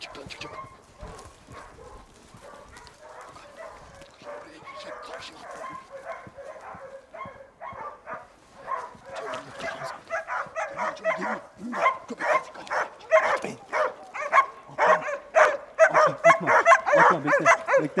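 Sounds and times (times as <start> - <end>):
hounds baying: 0.0 - 18.0.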